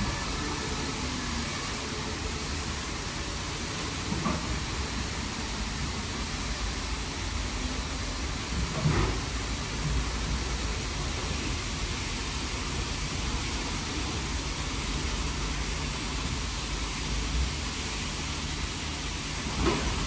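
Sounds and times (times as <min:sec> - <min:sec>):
hiss of spray: 0:00.0 - 0:20.0.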